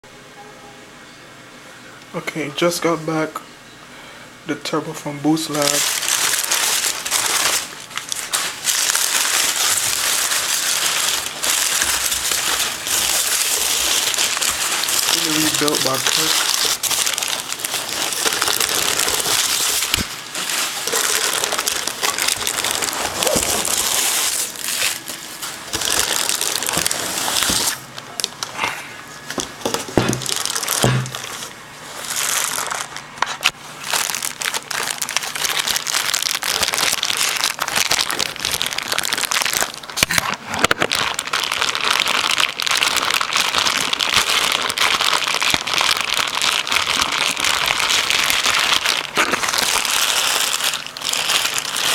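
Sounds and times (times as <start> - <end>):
packaging crinkling: 5.3 - 51.9.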